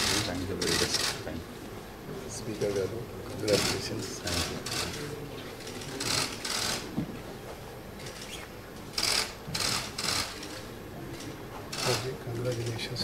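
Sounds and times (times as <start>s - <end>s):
low murmur in hall: 0.0s - 13.0s.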